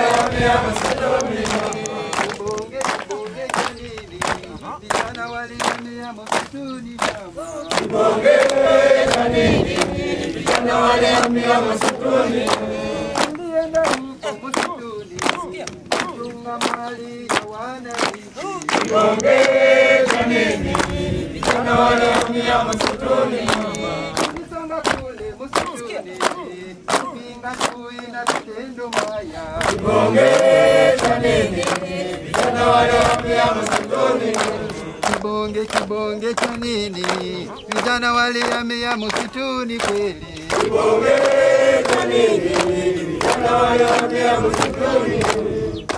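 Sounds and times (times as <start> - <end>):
group chanting in unison: 0.0 - 45.9
hands clapping in time: 0.0 - 45.9.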